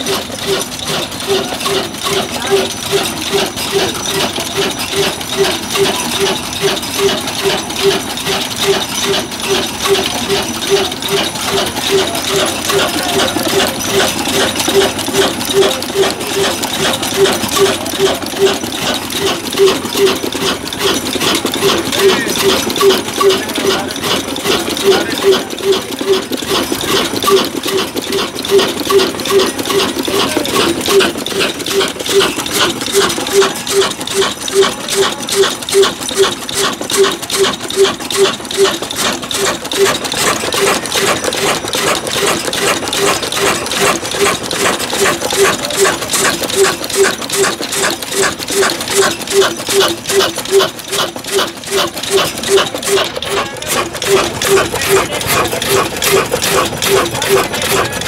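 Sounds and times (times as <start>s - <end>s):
diesel engine running slowly: 0.0s - 58.0s
metallic clatter: 0.0s - 58.0s.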